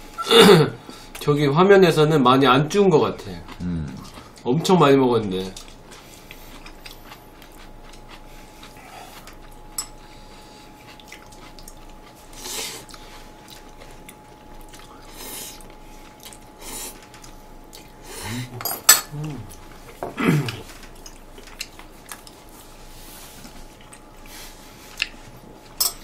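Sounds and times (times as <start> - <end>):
soft chewing: 3.1 - 25.8.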